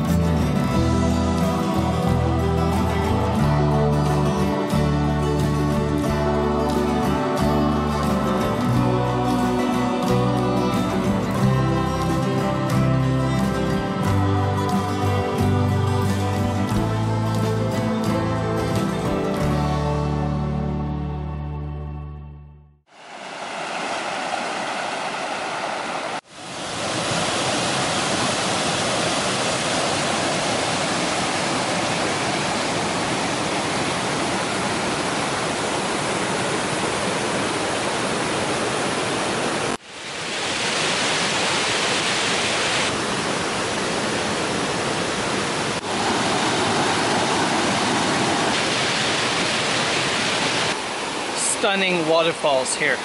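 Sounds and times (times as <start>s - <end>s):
river rapids and waterfall rushing: 0.0s - 19.0s, 22.9s - 53.0s.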